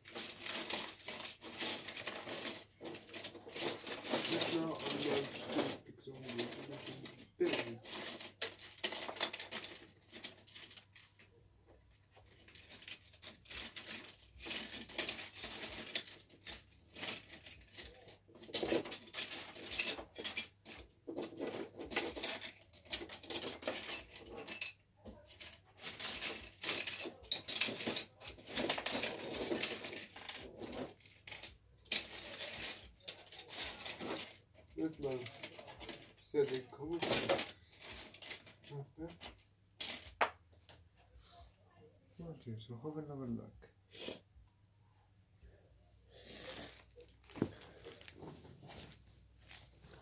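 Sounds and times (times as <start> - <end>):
plastic pieces clicking and rattling: 0.0 - 40.8, 46.6 - 48.3.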